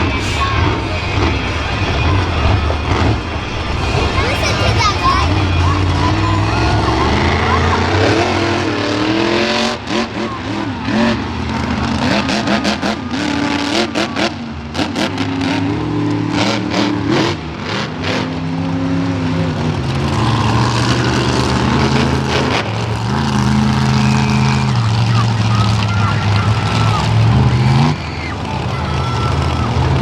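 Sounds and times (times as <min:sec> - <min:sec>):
monster truck engines revving: 0:00.0 - 0:30.0.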